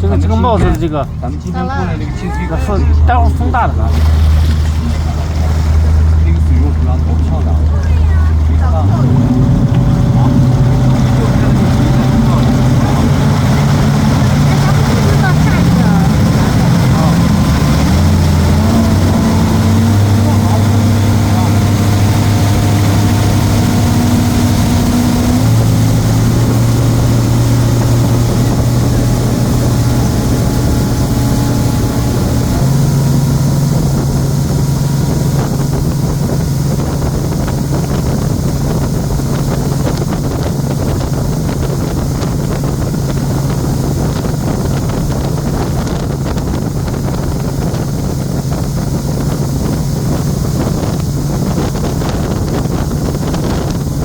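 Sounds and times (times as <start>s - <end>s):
motorboat engine running: 0.0s - 54.0s
wind buffeting microphone: 0.0s - 54.0s.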